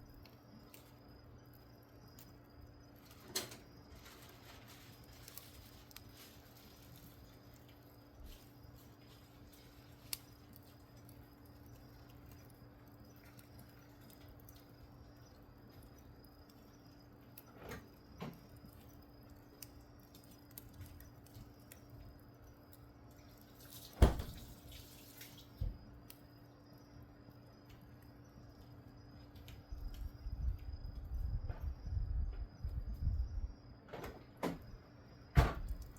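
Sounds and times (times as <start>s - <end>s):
fire popping: 0.0s - 26.3s, 26.9s - 33.6s, 35.4s - 35.9s
wood fire crackling: 0.0s - 33.7s, 34.6s - 35.9s.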